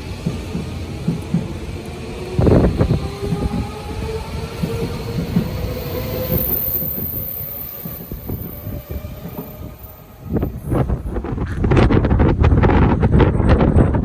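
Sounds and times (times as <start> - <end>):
train pulling away: 0.0 - 11.7
wind gusts on microphone: 0.1 - 14.0.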